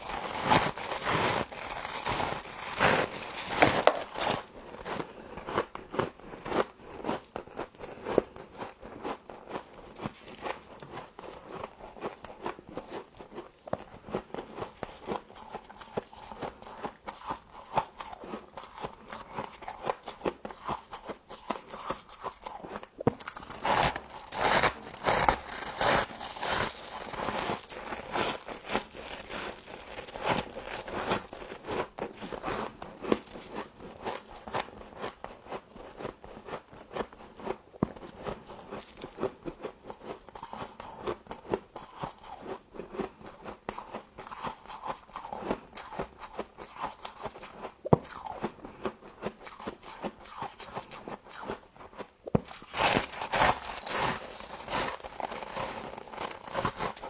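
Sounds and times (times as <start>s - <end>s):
frost crunching while chewed: 0.0s - 57.0s.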